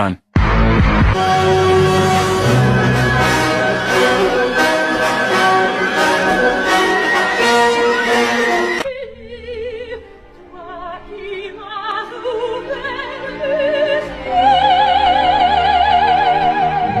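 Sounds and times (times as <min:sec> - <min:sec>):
operatic singing with vibrato: 0:01.2 - 0:17.0.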